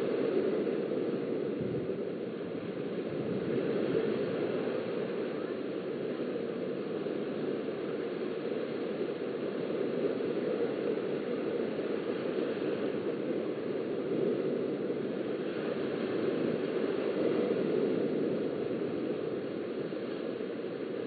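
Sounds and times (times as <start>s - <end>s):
small waves on sandy beach: 0.0s - 21.0s.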